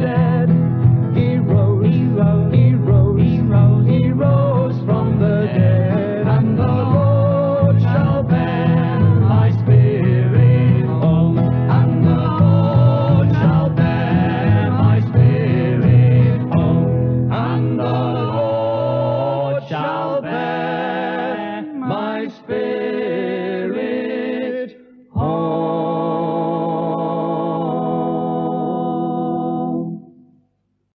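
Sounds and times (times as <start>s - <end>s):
voices singing in harmony: 0.0s - 30.1s.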